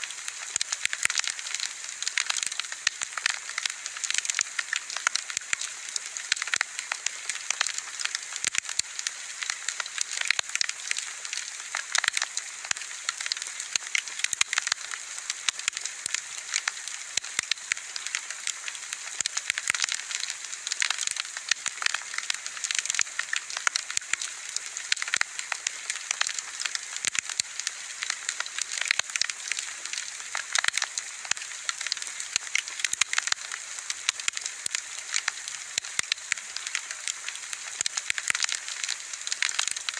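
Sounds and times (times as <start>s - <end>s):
bonfire crackling: 0.1s - 39.9s.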